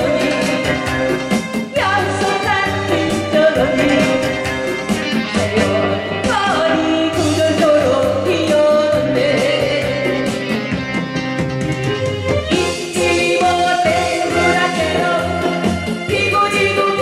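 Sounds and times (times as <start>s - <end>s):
woman singing into a microphone: 0.0s - 11.4s, 12.4s - 17.0s
amplified accompaniment with beat: 0.0s - 17.0s.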